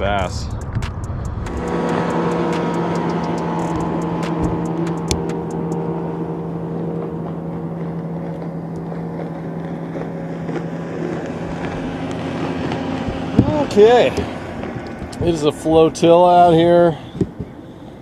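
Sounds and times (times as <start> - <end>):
motorboat engine humming: 0.0 - 18.0
water noise: 0.0 - 18.0
wind: 0.0 - 18.0.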